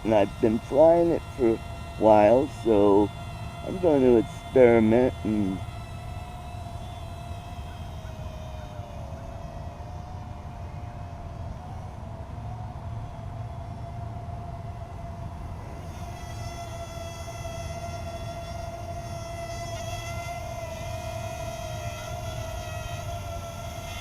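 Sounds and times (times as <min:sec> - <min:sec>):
drone propellers buzzing: 0:00.0 - 0:24.0.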